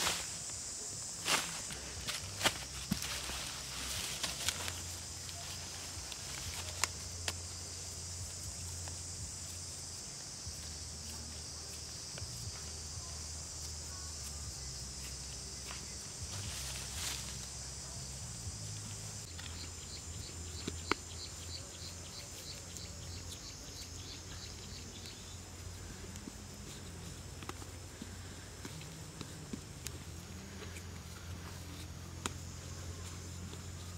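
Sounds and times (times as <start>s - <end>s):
high-pitched insect drone: 0.0s - 33.9s
rhythmic insect chirp: 0.0s - 33.9s.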